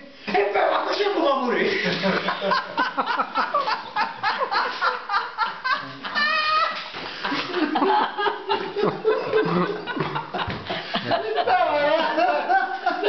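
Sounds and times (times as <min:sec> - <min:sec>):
group of people laughing: 0:00.6 - 0:13.0.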